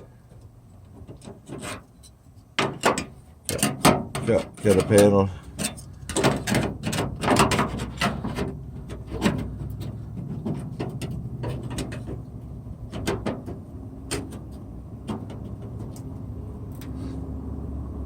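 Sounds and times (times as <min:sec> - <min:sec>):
sheet metal and tools clicking: 0:00.4 - 0:17.0.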